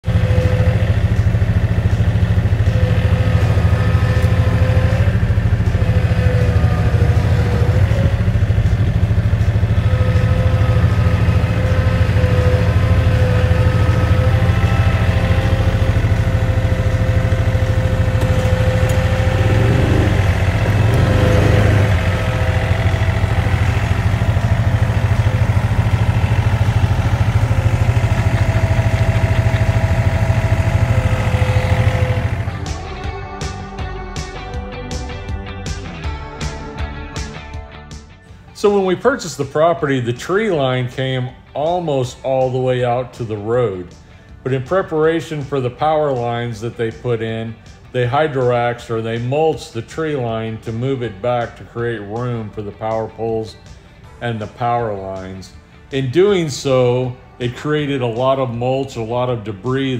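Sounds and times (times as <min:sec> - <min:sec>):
tractor engine running: 0:00.0 - 0:33.1, 0:38.4 - 0:59.9.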